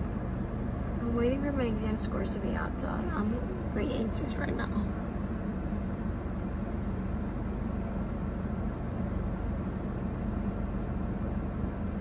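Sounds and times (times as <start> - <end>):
car engine hum: 0.0 - 12.0.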